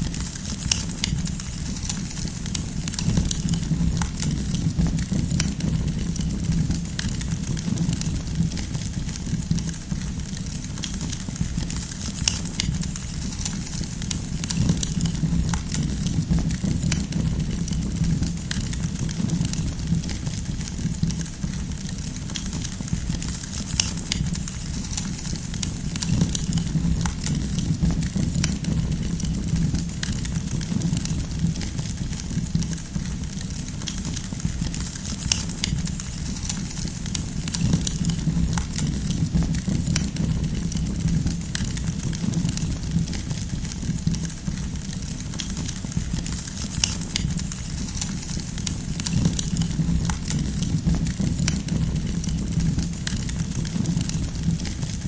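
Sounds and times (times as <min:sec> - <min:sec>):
wood campfire crackling: 0:00.0 - 0:55.0.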